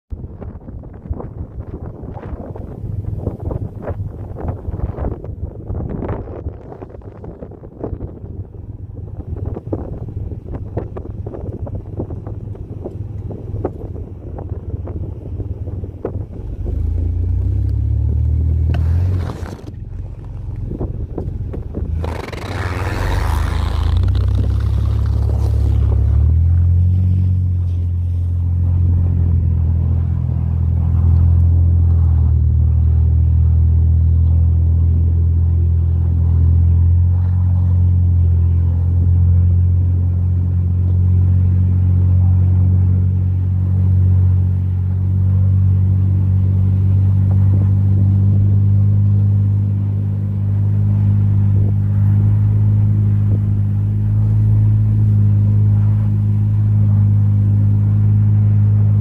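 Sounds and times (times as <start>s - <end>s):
van engine running: 0.1s - 59.0s.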